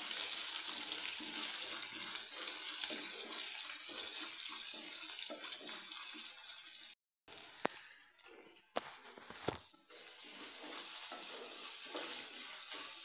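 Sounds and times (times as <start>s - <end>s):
onions sizzling in a pan: 0.0s - 8.4s, 9.9s - 13.0s.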